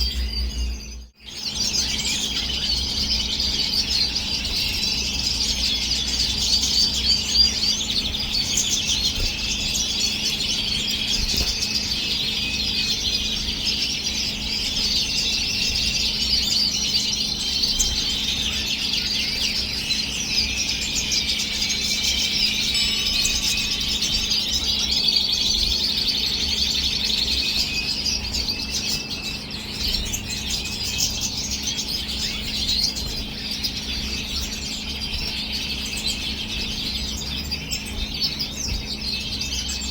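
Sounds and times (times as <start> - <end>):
finches twittering: 0.0 - 39.9
steady low hum: 0.0 - 39.9.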